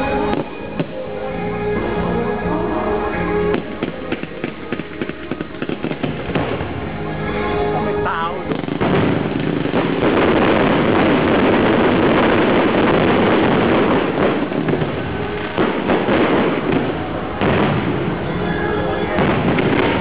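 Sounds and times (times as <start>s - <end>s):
fireworks bangs: 0.0s - 1.2s, 3.4s - 20.0s
fireworks crackling: 0.0s - 20.0s.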